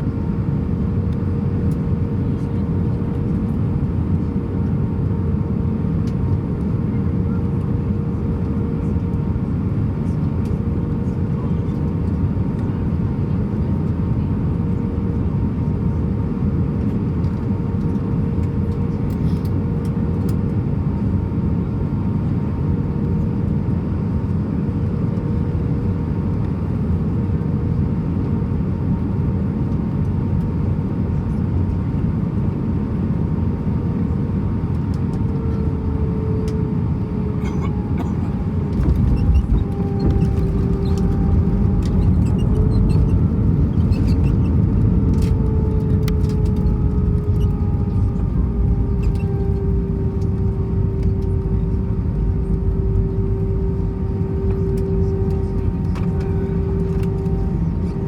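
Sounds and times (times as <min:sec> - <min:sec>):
airplane cabin rumble: 0:00.0 - 0:58.0
faint engine hum: 0:00.0 - 0:58.0.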